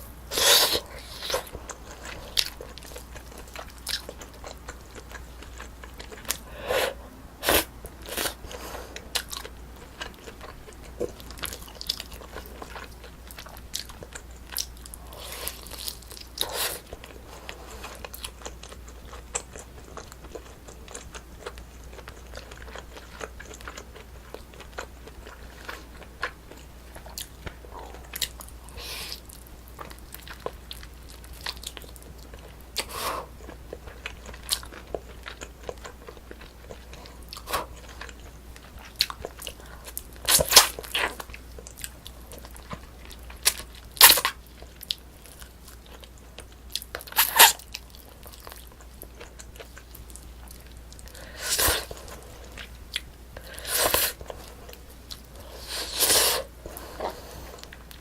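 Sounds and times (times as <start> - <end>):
person chewing food: 0.2 - 58.0.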